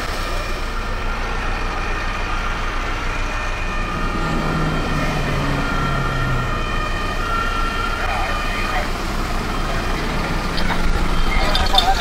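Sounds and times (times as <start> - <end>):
fire engine engine rumbling: 0.0 - 12.0
steady high tones: 0.8 - 12.0
deep hum: 1.0 - 12.0.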